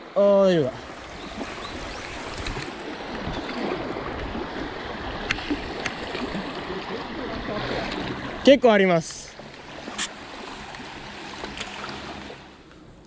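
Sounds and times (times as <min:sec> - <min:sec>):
river water rushing over stones: 0:00.4 - 0:12.6.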